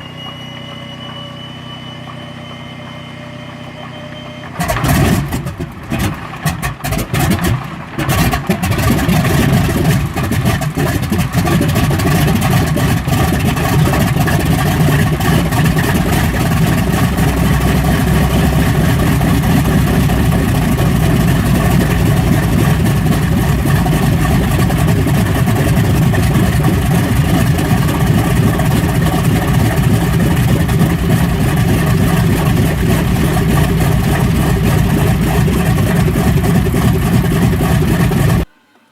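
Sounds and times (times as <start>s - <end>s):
piston aircraft engine running: 0.0s - 38.9s.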